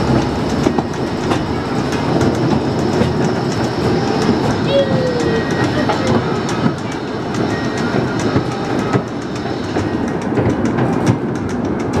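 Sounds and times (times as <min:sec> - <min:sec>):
train cars rolling on track: 0:00.0 - 0:12.0
wheels clattering over rails: 0:00.0 - 0:12.0.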